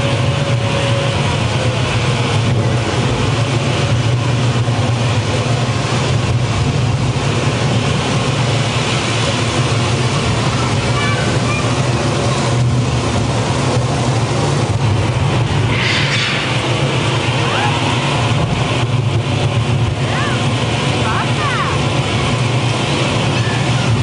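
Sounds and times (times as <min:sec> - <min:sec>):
deep even rumble: 0:00.0 - 0:24.0
rushing water: 0:00.0 - 0:24.0.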